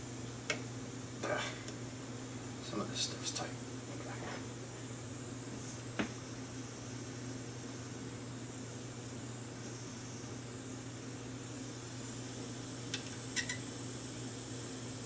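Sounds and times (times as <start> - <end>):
gas soldering iron hissing: 0.2 - 15.0.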